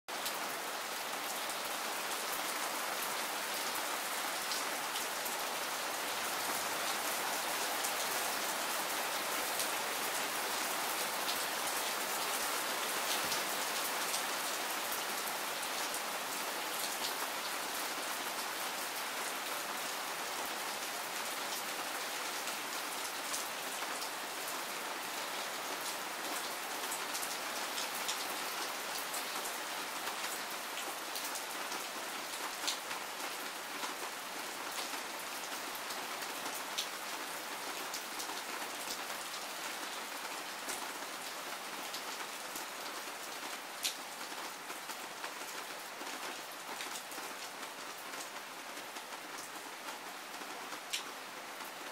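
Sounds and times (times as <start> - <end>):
heavy rain: 0.1 - 51.9.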